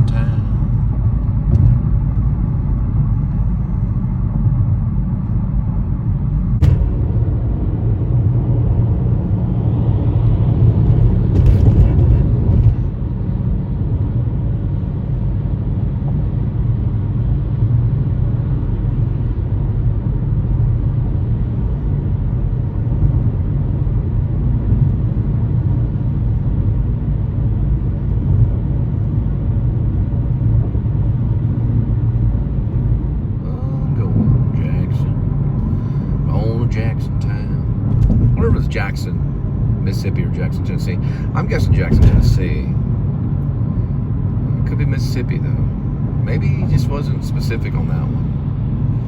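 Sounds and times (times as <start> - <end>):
car interior road rumble: 0.0 - 49.0.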